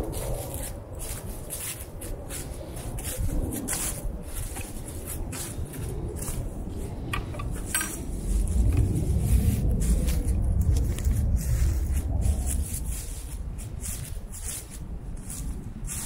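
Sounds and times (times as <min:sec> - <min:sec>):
footsteps on dry leaves: 0:00.0 - 0:16.0
wind rumbling on microphone: 0:00.0 - 0:16.0.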